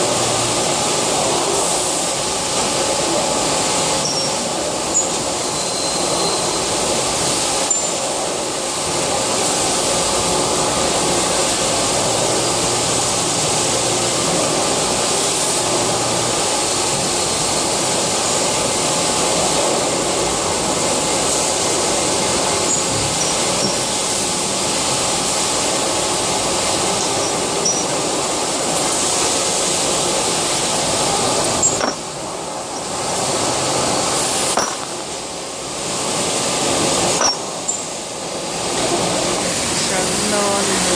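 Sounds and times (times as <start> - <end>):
lathe machining noise: 0.0 - 40.9.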